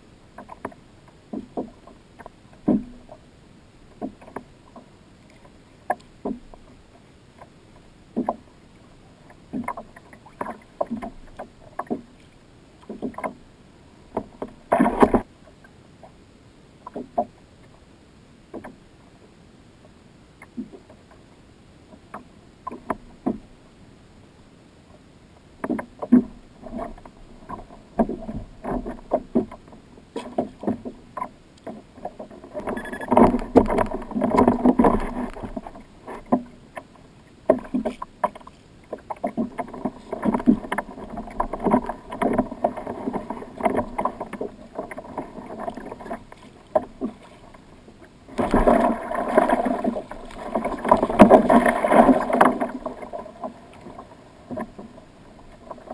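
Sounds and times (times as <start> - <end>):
water splashing against kayak hull: 0.0 - 15.6, 25.6 - 55.9.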